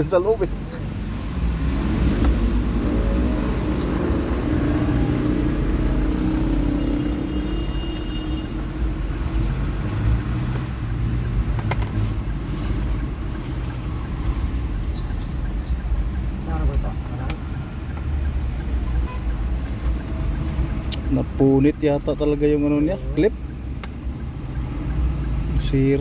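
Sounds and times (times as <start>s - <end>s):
low vehicle rumble: 0.0s - 26.0s.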